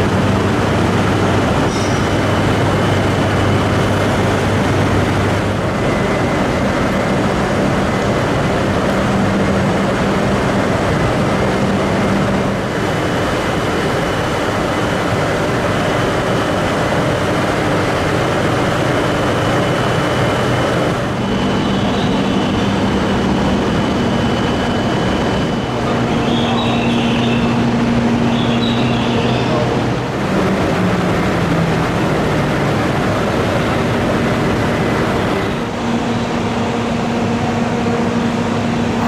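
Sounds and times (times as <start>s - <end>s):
train moving slowly: 0.0s - 39.0s.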